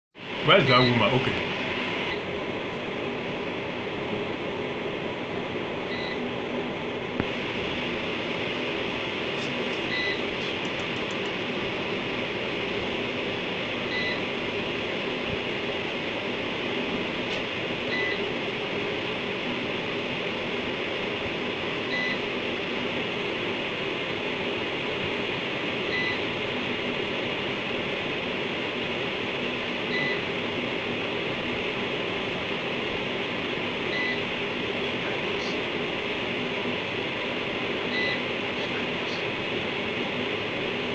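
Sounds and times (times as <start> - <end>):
steady hum and hiss: 0.2 - 40.9.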